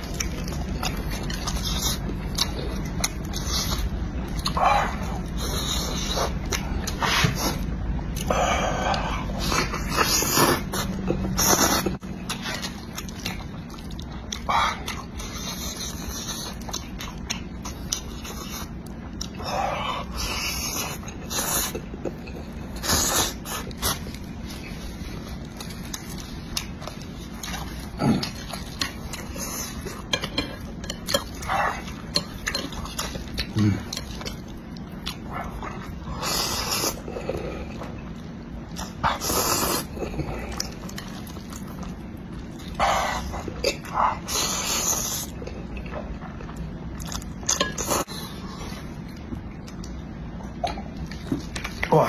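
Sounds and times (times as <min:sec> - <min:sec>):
person chewing noodles: 0:00.0 - 0:52.0.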